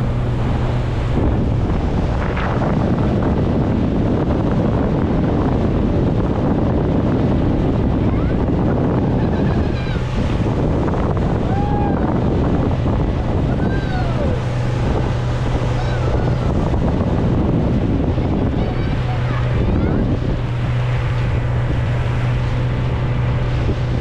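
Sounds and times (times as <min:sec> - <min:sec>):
low engine hum: 0:00.0 - 0:24.0
water rushing: 0:00.0 - 0:24.0
wind buffeting microphone: 0:00.0 - 0:24.0.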